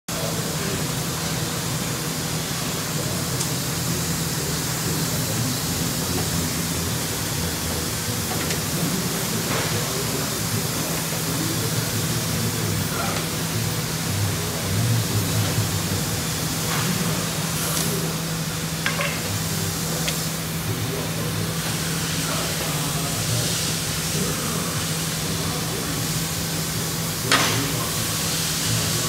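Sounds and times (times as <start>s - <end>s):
laser cutting machine humming: 0.1s - 29.0s.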